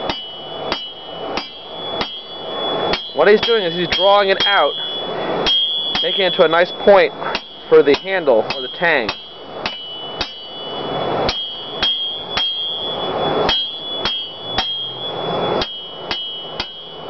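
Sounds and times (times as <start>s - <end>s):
hammer ringing on anvil: 0.0s - 17.0s.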